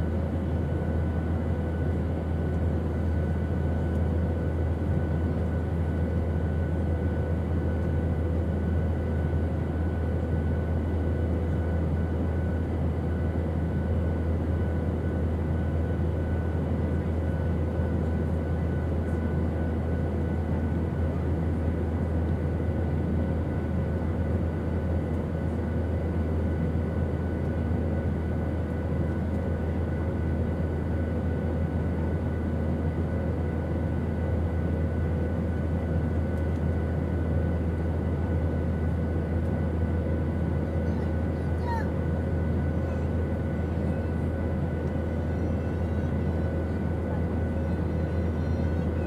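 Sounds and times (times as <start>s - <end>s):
airplane engine drone: 0.0s - 49.0s.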